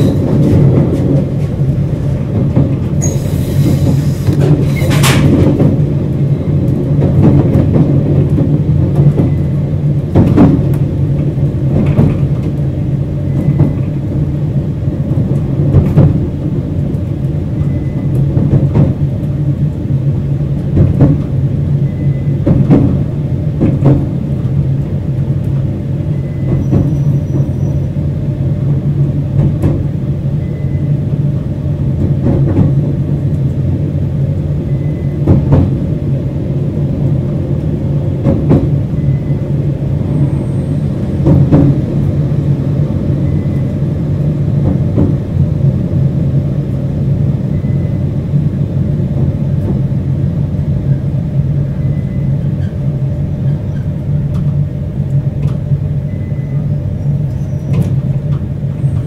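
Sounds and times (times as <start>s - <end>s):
train carriage low rumble: 0.0s - 59.0s.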